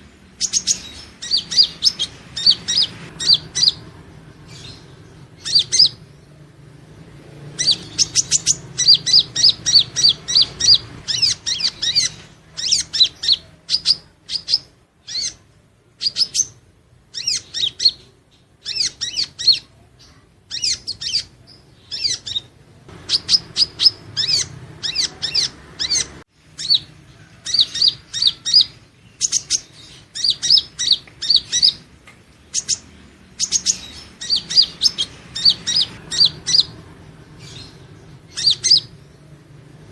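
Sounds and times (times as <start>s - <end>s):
bird singing high chips and twitters: 0.0s - 6.4s, 7.1s - 39.3s.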